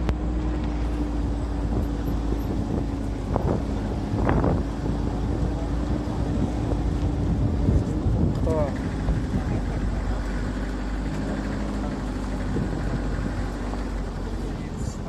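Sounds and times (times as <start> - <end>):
constant hum: 0.0 - 15.0
low rumble: 0.0 - 15.0
wind buffeting microphone: 0.0 - 15.0.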